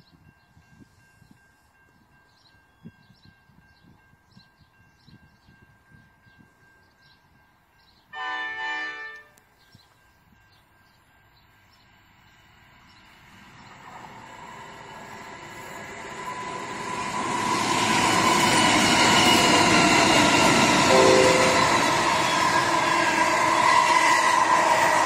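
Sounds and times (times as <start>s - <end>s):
freight train passing: 0.1s - 25.0s.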